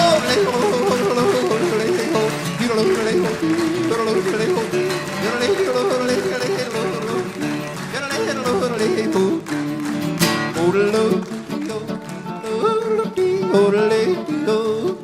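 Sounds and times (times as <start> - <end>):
man singing and yodeling: 0.0 - 9.9, 10.5 - 15.0
acoustic guitar: 0.0 - 15.0.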